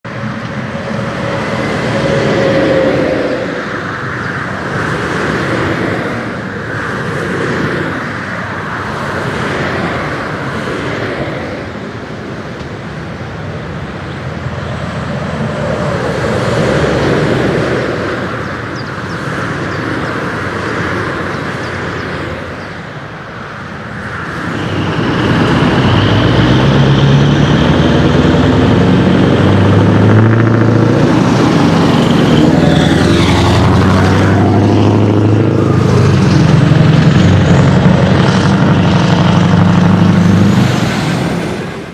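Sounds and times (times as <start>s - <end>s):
road traffic noise: 0.0s - 41.9s
truck engine roar: 0.0s - 41.9s.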